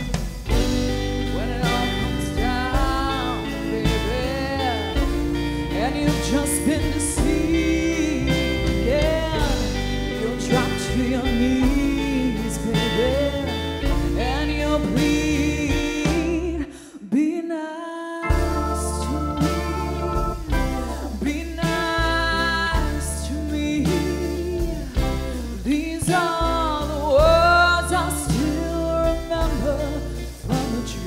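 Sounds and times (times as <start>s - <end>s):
karaoke backing track: 0.0s - 16.8s, 18.2s - 31.0s
woman singing into a microphone: 1.2s - 31.0s.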